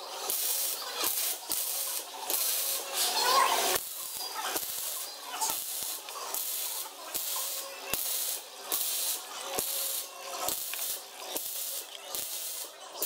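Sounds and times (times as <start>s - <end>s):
drill bit cutting metal hiss: 0.0s - 13.0s.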